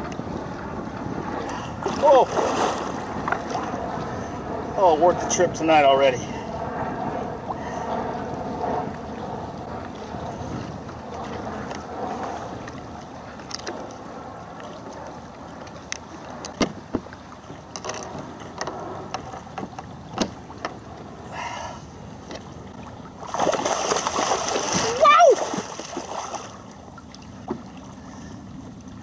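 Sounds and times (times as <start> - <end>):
water lapping against kayak hull: 0.0 - 5.8, 6.4 - 29.0
wind on microphone: 0.0 - 26.6.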